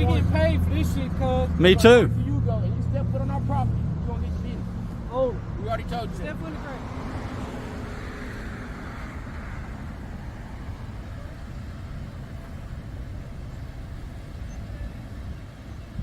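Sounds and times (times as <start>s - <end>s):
vehicle passing by: 0.0s - 13.4s
traffic rumble: 0.0s - 16.0s.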